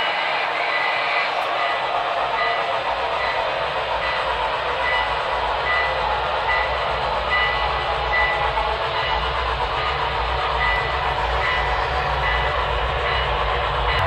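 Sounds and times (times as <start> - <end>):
model train rumble: 0.0 - 14.0.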